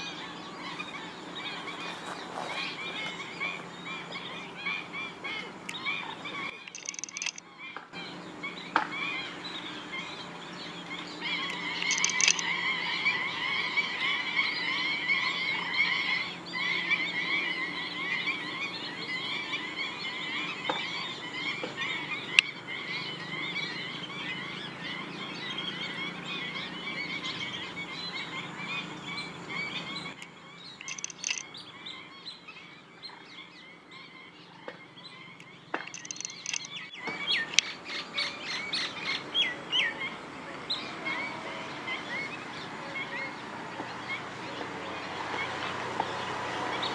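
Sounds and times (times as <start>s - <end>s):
flock of birds calling: 0.0s - 46.9s.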